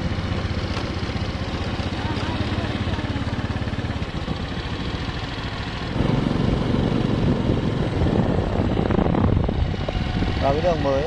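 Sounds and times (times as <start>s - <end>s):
motorbike engine rumbling: 0.0s - 11.0s.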